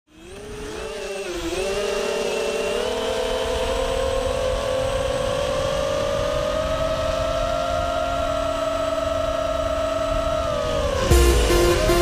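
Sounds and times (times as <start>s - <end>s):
quadcopter motors whining: 0.1s - 12.0s.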